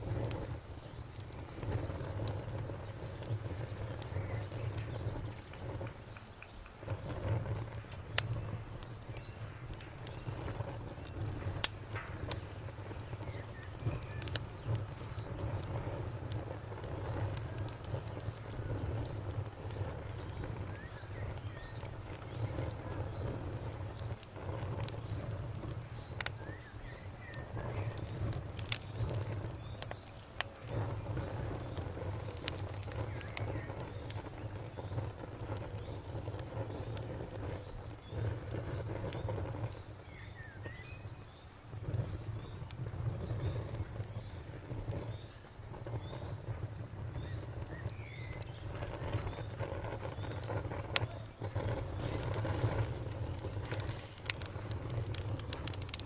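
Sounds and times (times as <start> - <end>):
cricket chirping: 0.0 - 56.0
wood fire crackling and popping: 0.0 - 56.0.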